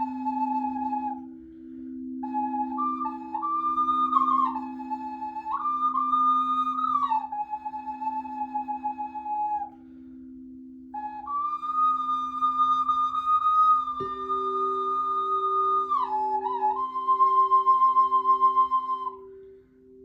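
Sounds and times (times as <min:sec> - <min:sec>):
slow flute melody: 0:00.0 - 0:20.0.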